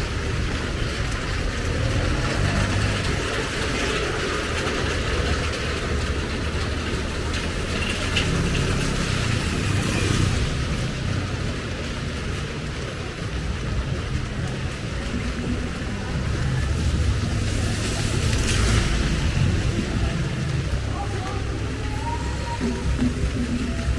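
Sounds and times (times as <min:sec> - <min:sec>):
street noise hiss: 0:00.0 - 0:23.9
vehicle engine rumbling: 0:00.0 - 0:23.9.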